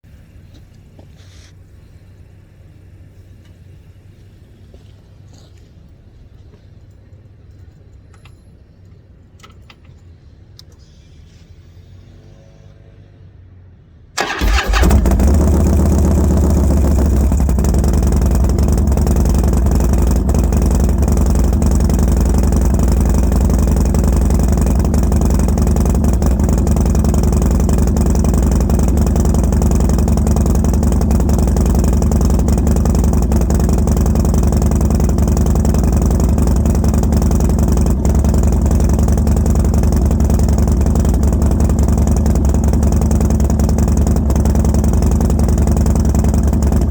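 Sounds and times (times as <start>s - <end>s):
motorcycle engine starting and idling: 0.1s - 13.3s, 14.1s - 46.9s.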